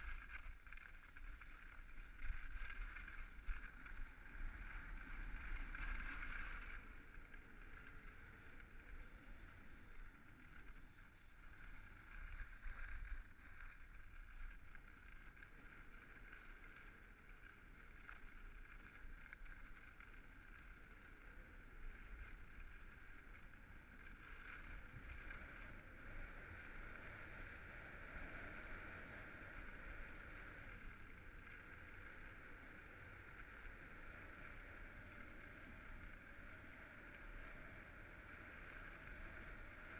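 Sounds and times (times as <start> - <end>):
skis sliding over snow: 0.0 - 39.9
wind rumble on microphone: 0.0 - 39.9.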